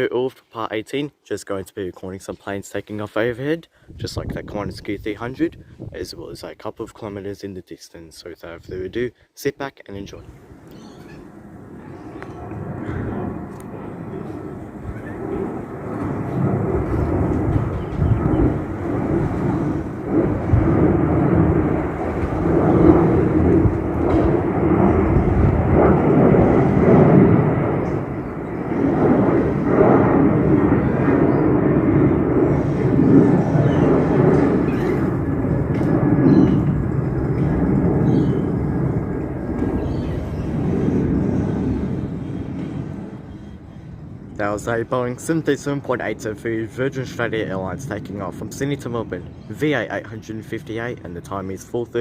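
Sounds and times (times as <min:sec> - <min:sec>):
jet engine roar: 0:10.0 - 0:52.0.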